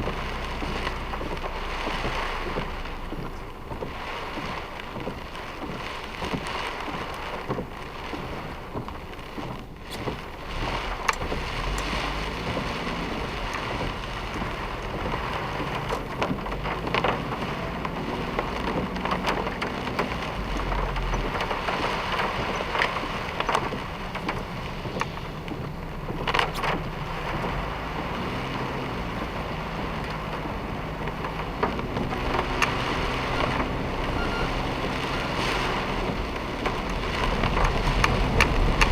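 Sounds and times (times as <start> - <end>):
car engine and road noise: 0.0 - 38.9
heavy rain beating on car: 0.0 - 38.9
raindrop taps: 0.0 - 38.9.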